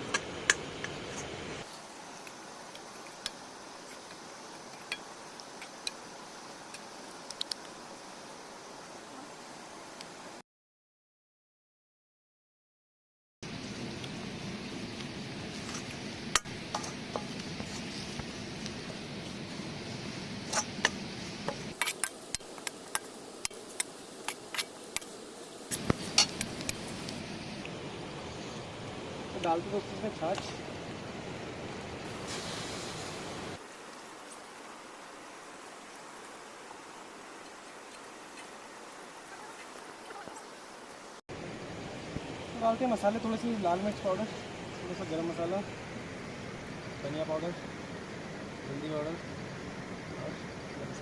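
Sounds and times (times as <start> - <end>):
flour roasting in oil hissing: 0.0 - 10.4, 13.5 - 51.0.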